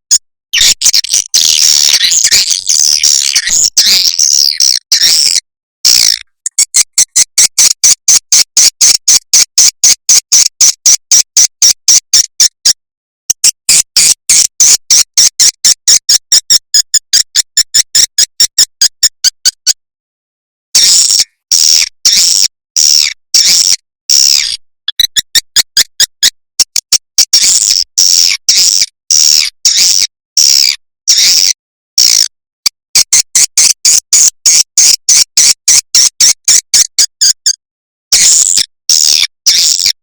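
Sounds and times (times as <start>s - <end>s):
recorded swiftlet chirps: 0.1s - 19.8s, 20.8s - 31.5s, 33.0s - 40.0s.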